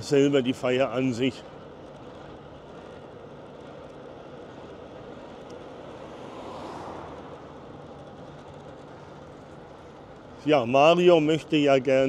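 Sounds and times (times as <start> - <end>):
vehicle road noise: 0.0 - 12.0.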